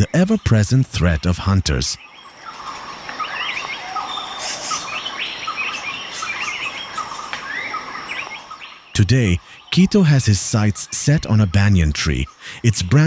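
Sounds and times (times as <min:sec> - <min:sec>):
birds chirping: 0:00.0 - 0:13.0
insects buzzing: 0:02.0 - 0:13.0.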